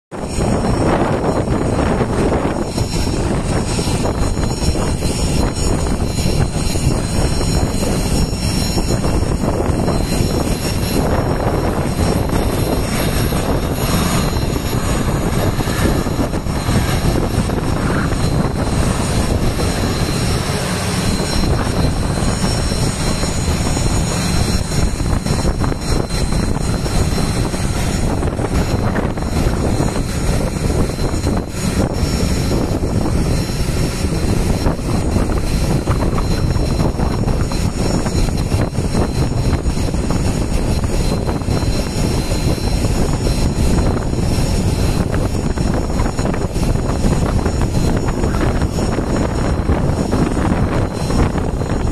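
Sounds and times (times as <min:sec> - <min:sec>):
high-pitched engine whine: 0:00.1 - 0:51.9
jet engines rumbling roar: 0:00.1 - 0:51.9.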